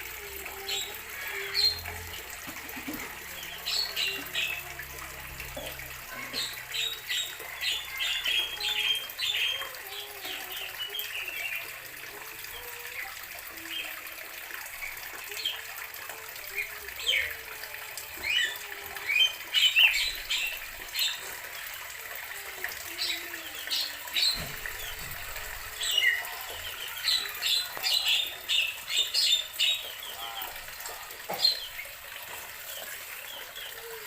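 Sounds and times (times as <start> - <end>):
birds chirping: 0.0 - 15.8, 16.4 - 34.0.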